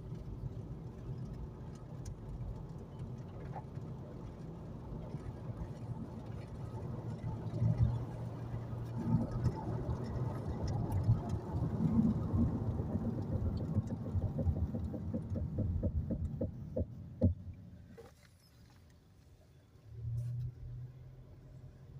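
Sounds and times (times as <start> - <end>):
car rolling rumble: 0.0 - 21.9.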